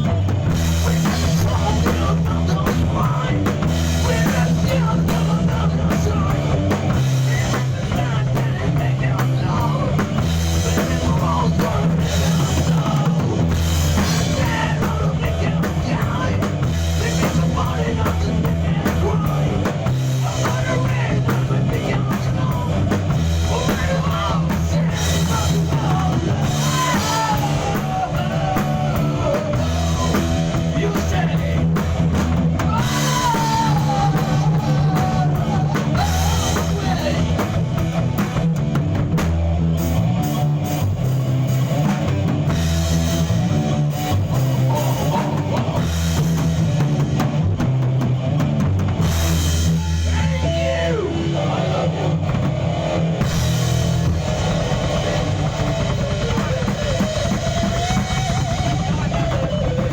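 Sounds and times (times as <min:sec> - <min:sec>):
drum kit: 0:00.0 - 0:59.9
electric guitar: 0:00.0 - 0:59.9
low bass line: 0:00.0 - 0:59.9.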